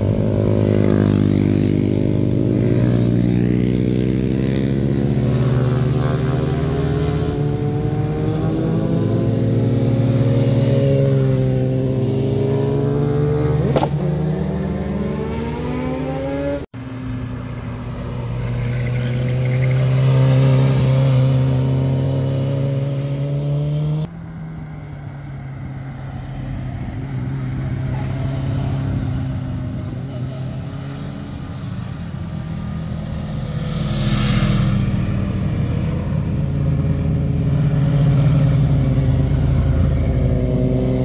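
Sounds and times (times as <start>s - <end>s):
motorcycles passing through a bend: 0.0s - 41.0s.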